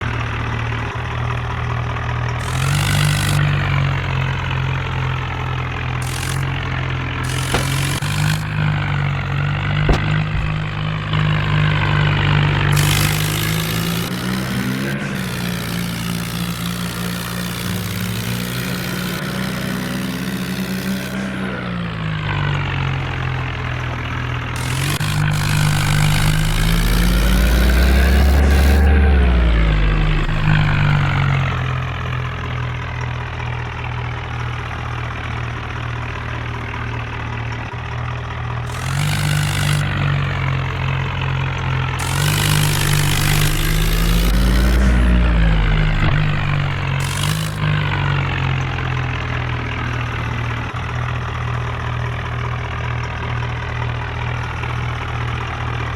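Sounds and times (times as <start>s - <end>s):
tractor diesel engine revving: 0.0s - 55.9s.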